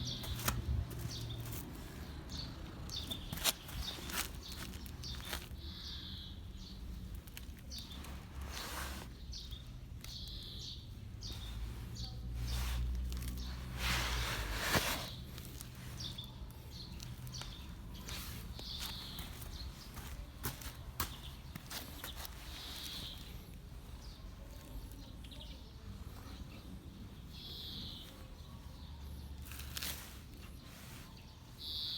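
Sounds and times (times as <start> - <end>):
outdoor background noise: 0.0 - 31.9
small birds chirping: 0.0 - 31.9.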